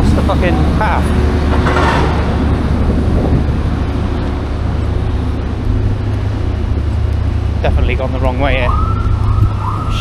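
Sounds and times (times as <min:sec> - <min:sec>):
street traffic: 0:00.0 - 0:10.0
wind buffeting microphone: 0:00.0 - 0:10.0.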